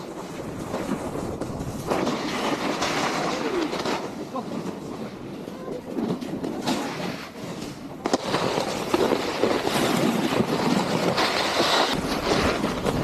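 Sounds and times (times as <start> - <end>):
snowboard scraping over snow: 0.0 - 13.0
wind on microphone: 0.0 - 13.0.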